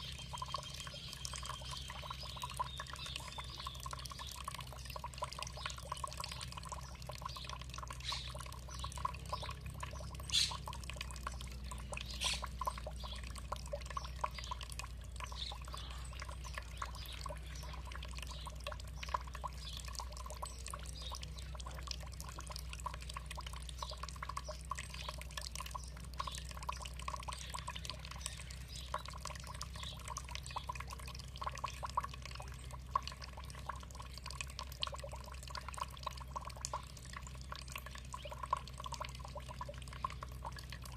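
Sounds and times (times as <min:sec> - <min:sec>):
water trickling and dripping: 0:00.0 - 0:40.9.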